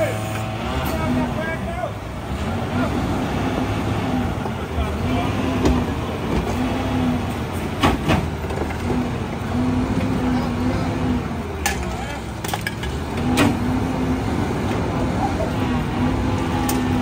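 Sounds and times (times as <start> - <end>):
garbage truck running with low hum: 0.0 - 17.0.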